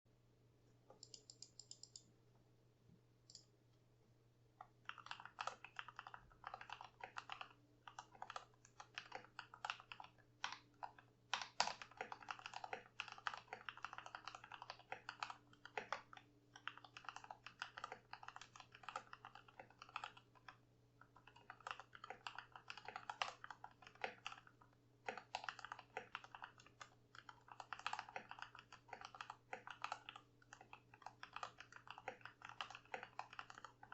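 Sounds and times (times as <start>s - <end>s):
fast typing on mechanical keyboard: 4.8s - 33.9s.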